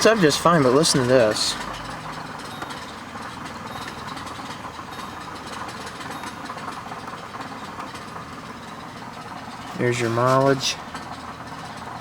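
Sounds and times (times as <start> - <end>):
car engine idling: 0.0 - 12.0
steady rattle from underneath: 0.0 - 12.0.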